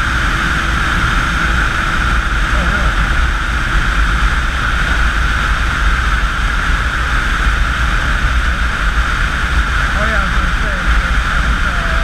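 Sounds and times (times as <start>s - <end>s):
motorcycle engine drone: 0.0s - 12.0s
wind rush: 0.0s - 12.0s.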